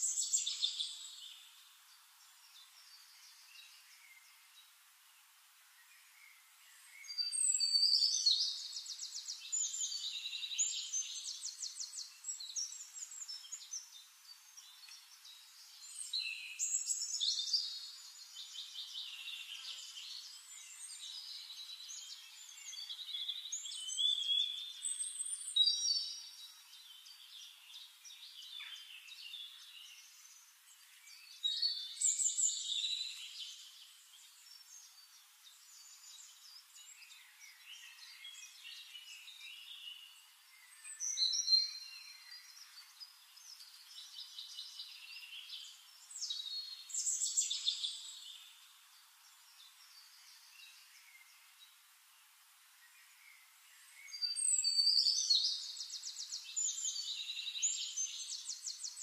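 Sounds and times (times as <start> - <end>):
birds singing trilled phrases: 5.9 - 51.6, 52.8 - 59.0.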